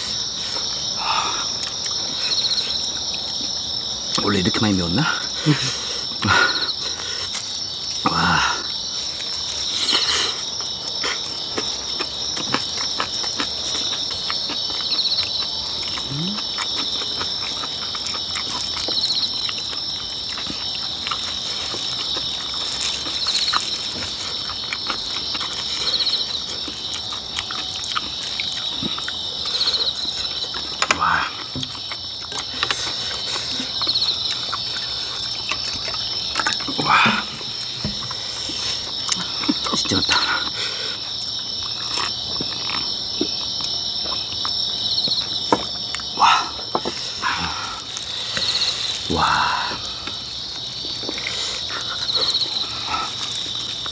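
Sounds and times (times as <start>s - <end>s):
chewing: 0.0s - 53.9s
louder insect call: 0.0s - 53.9s
night insects chirring: 0.0s - 53.9s.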